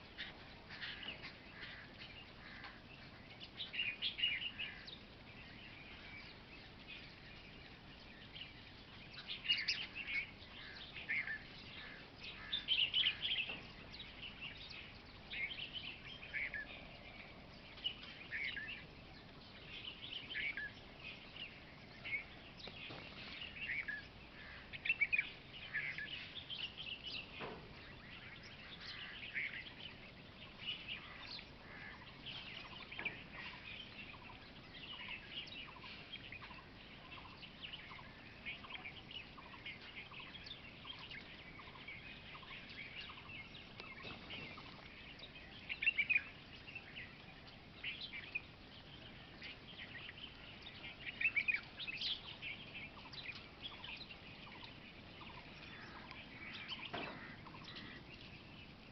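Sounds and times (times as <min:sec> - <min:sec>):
birds chirping: 0:00.0 - 0:58.9.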